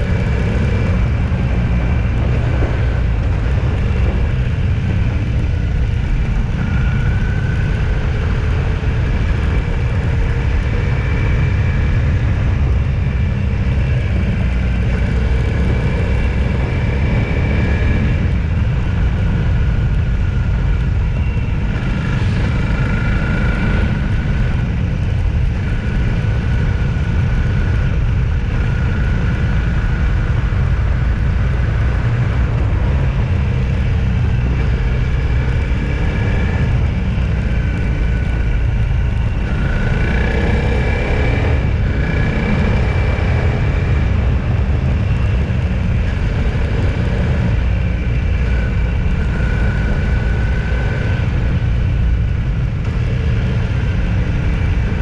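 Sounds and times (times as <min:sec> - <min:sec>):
car engine and road rumble: 0:00.0 - 0:55.0
faint whine: 0:00.0 - 0:55.0.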